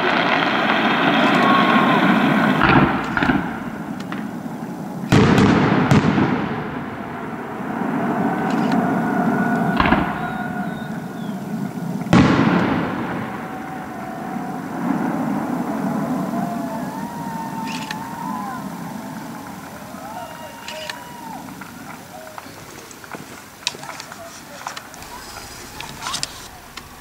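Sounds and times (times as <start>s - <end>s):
firework shells bursting: 0.0s - 27.0s.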